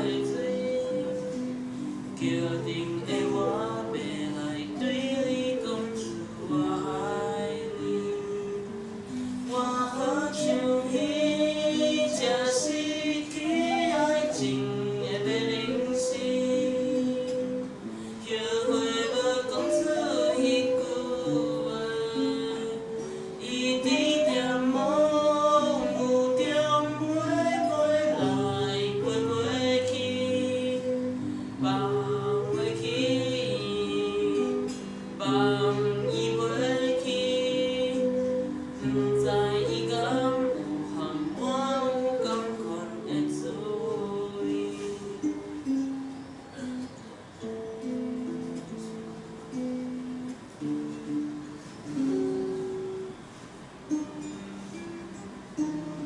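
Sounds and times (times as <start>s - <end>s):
person singing: 0.0s - 50.2s
acoustic guitar: 0.0s - 56.0s.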